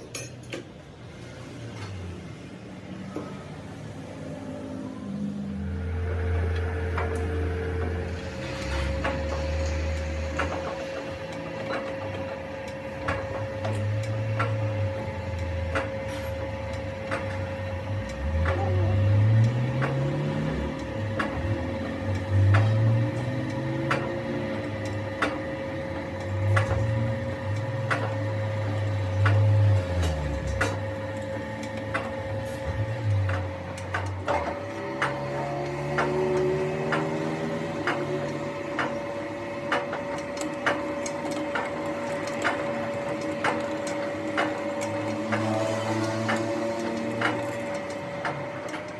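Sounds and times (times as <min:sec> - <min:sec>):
metal lathe whining: 0:02.7 - 0:48.9.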